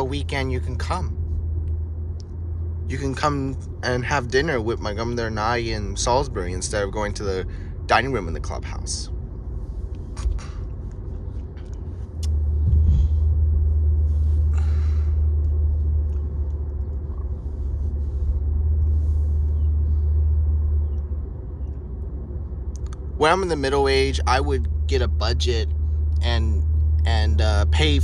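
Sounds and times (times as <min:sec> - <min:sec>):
car driving heard from inside: 0:00.0 - 0:28.0.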